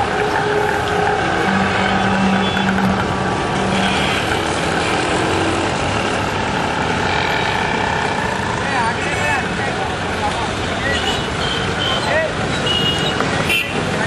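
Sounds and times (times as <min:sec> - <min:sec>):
vehicle engines running: 0:00.0 - 0:14.0.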